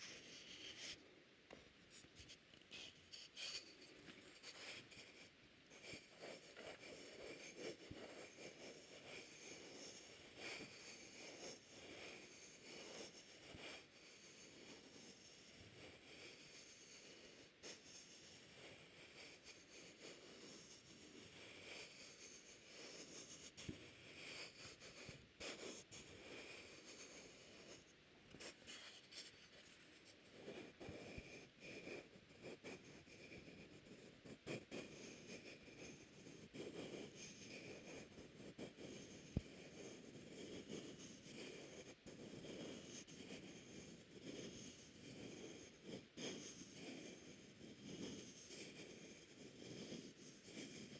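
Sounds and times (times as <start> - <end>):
close-up rubbing and scratching: 0.0 - 15.2, 21.8 - 50.1.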